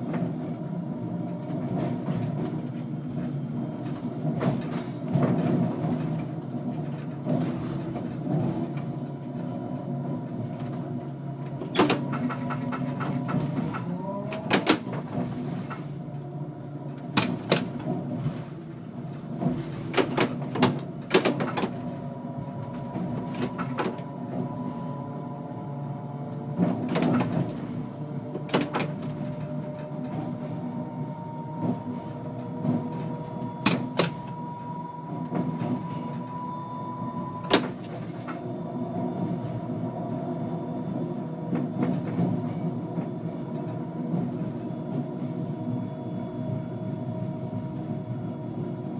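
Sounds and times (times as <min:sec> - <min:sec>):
wheels rumbling on rail: 0:00.0 - 0:48.9.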